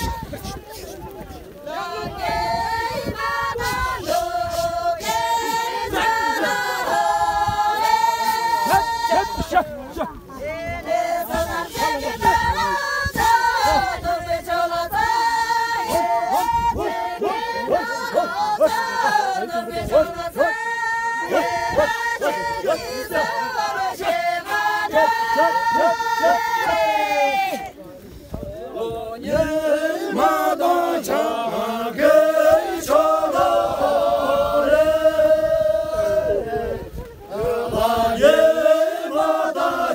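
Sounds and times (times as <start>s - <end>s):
women singing in unison: 0.0s - 0.9s, 1.6s - 27.7s, 28.8s - 39.9s
men chanting: 1.7s - 27.7s, 28.6s - 39.9s.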